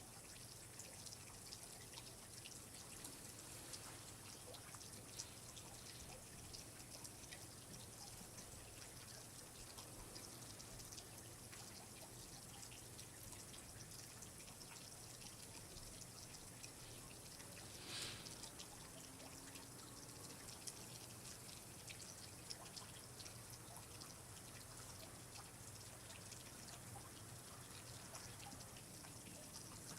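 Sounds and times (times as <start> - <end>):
faint water dripping: 0.0 - 29.9.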